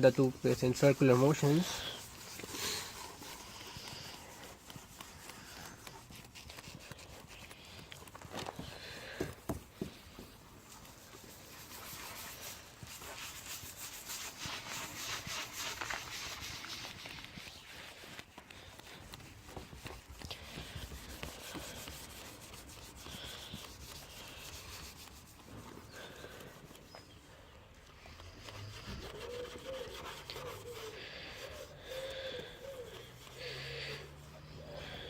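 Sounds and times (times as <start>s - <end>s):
rubbing on plastic lens: 0.0s - 35.0s.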